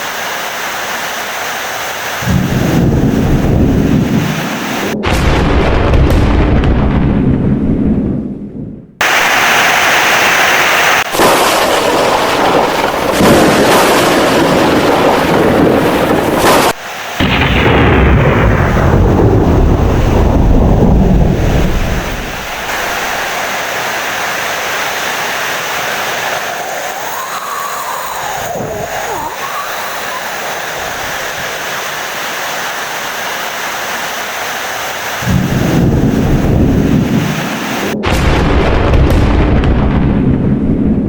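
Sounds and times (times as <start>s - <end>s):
heavy rain: 0.0s - 5.1s, 9.0s - 40.5s
rolling thunder: 2.2s - 9.3s, 11.0s - 31.9s, 35.2s - 41.0s.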